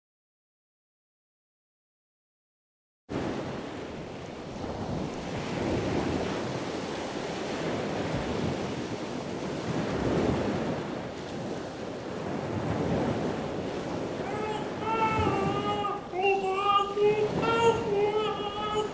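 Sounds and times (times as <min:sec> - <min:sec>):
sea waves washing: 0:03.1 - 0:18.9.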